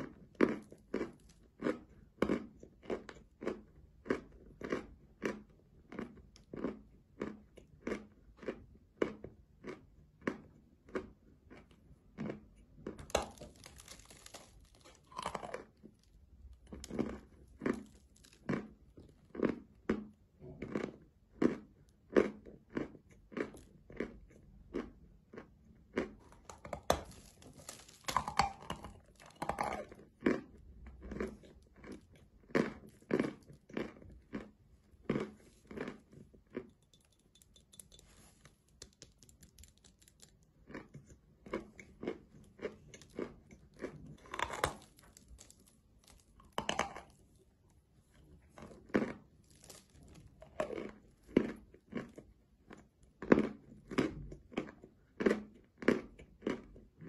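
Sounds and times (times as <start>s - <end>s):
chewing and crunching chalk: 0.0s - 57.0s.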